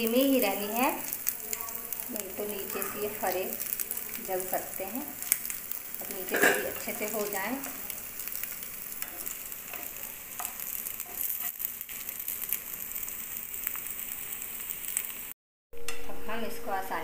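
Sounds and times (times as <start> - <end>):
oil sizzling in a pan: 0.0 - 15.4
small crackles: 0.1 - 15.4.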